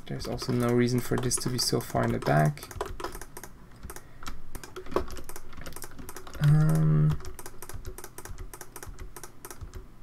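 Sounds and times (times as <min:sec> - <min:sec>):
keyboard keys clicking: 0:00.0 - 0:09.9.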